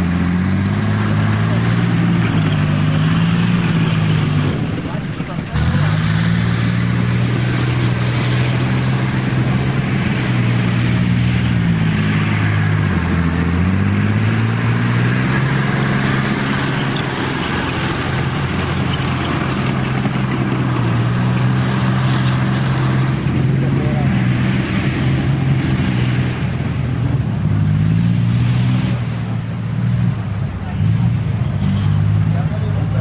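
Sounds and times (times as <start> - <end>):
tracked vehicle diesel engine: 0.0 - 33.0.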